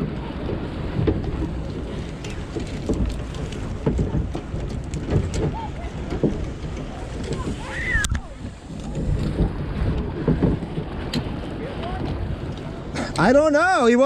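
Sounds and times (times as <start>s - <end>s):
water splashing and dripping: 0.0s - 13.4s
wind rumble on microphone: 0.0s - 14.0s.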